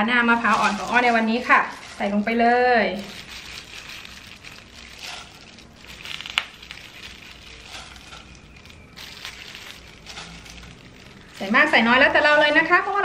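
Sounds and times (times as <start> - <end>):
gloved hand rustling: 0.0 - 13.0.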